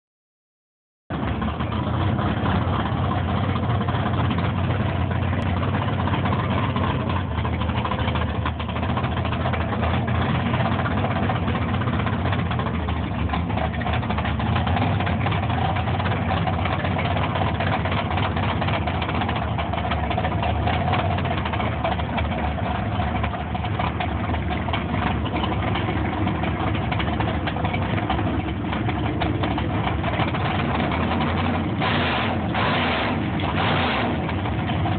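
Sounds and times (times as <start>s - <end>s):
truck engine idling: 1.1s - 34.9s.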